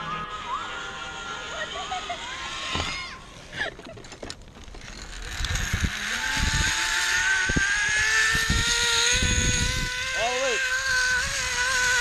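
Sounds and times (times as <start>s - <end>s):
zip line trolley whine: 0.0s - 12.0s.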